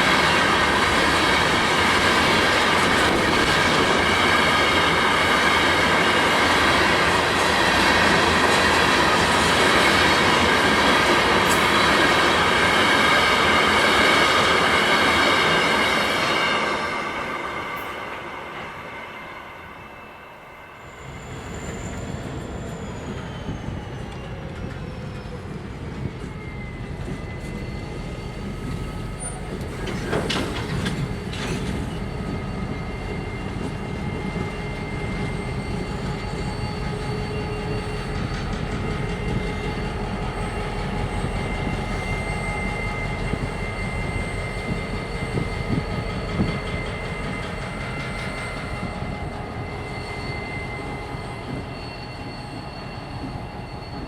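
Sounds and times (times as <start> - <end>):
freight train cars rumbling: 0.0 - 18.8, 20.9 - 54.0.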